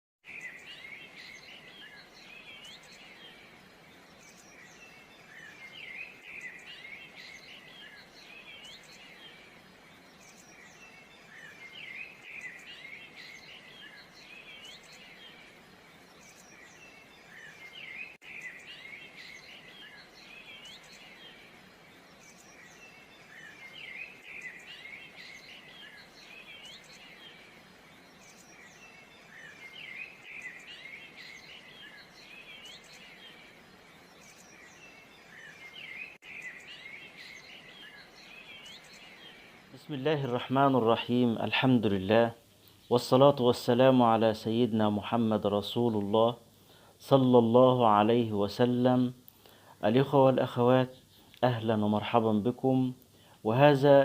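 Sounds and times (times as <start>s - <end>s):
birds chirping: 0.2s - 54.0s
steady hiss: 0.3s - 54.0s.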